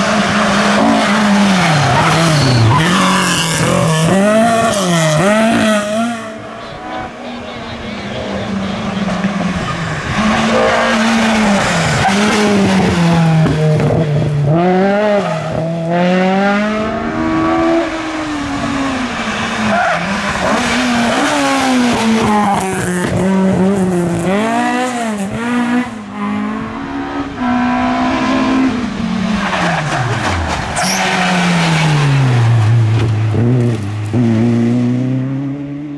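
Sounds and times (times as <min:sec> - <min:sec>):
rally car engines revving: 0:00.0 - 0:35.9.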